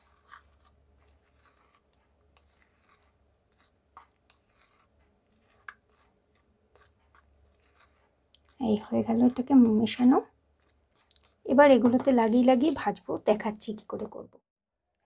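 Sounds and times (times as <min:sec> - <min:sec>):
dry flour stirred in plastic bowl: 0:00.0 - 0:14.2.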